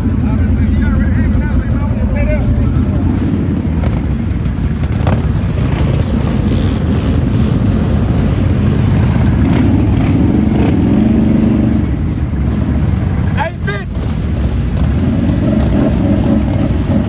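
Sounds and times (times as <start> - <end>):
off-road vehicle engines rumbling: 0.0 - 17.0.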